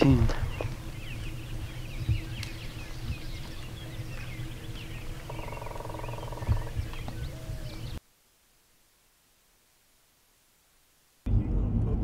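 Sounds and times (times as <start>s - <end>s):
songbirds chirping: 0.0s - 9.8s.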